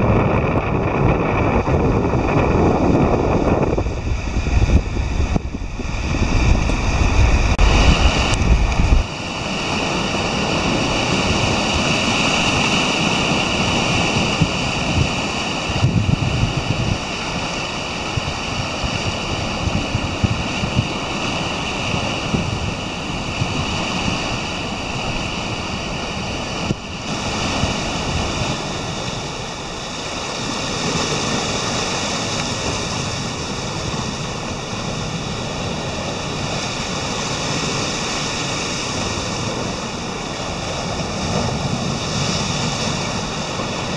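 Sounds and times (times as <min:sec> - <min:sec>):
surf breaking over rocks: 0:00.0 - 0:43.9
wind rumbling on microphone: 0:00.0 - 0:43.9.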